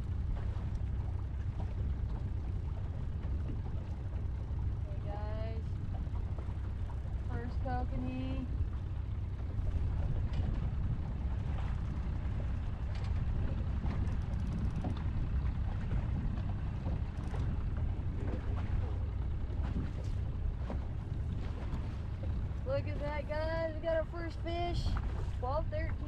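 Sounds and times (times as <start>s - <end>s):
boat on water: 0.0s - 26.0s
wind rumble: 0.0s - 26.0s.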